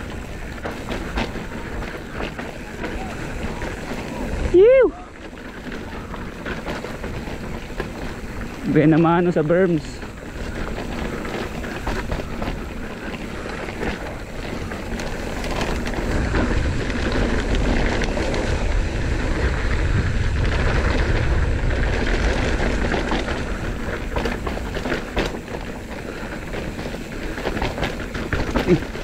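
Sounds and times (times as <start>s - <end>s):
bike rattling over bumps: 0.0s - 29.0s
bike tyres on rough ground: 0.0s - 29.0s
wind rushing over microphone: 0.0s - 29.0s.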